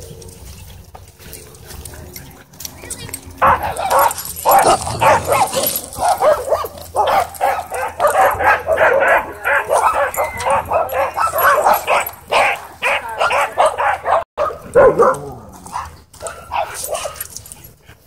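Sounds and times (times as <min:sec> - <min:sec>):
huskies barking: 0:01.7 - 0:18.0.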